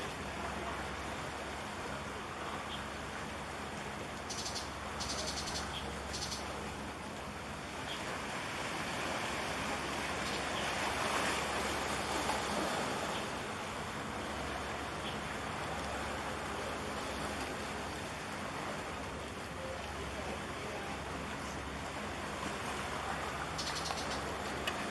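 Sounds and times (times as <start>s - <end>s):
sea water washing: 0.0s - 24.9s.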